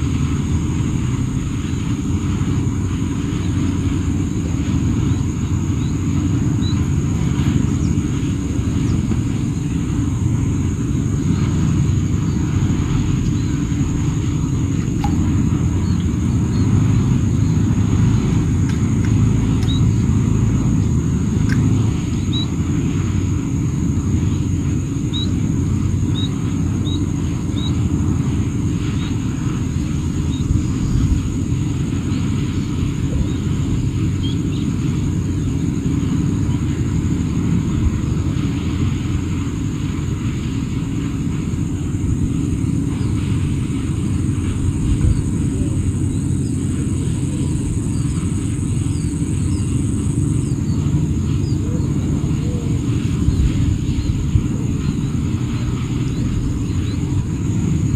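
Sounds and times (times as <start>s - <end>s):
steady high hum: 0.0s - 57.9s
steady low rumble: 0.0s - 57.9s.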